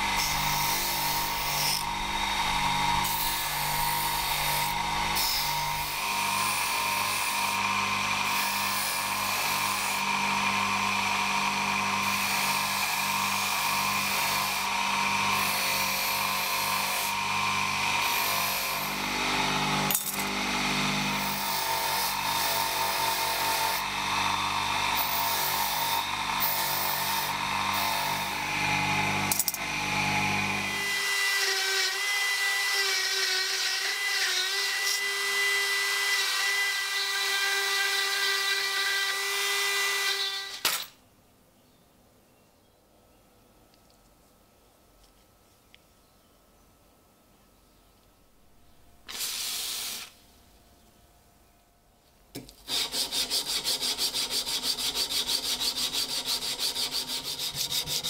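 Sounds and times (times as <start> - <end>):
power tool grinding: 0.0 - 40.9, 49.0 - 50.2, 52.6 - 58.0.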